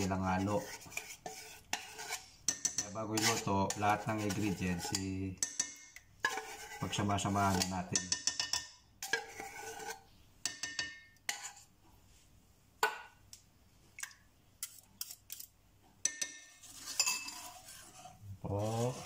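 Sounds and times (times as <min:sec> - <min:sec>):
spoon and whisk clinking on pot: 0:00.0 - 0:11.7, 0:14.6 - 0:19.0.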